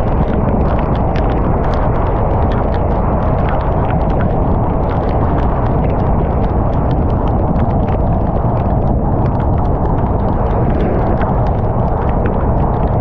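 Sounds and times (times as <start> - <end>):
steady low rumble: 0.0 - 13.0
torrential rain on a car: 0.0 - 13.0.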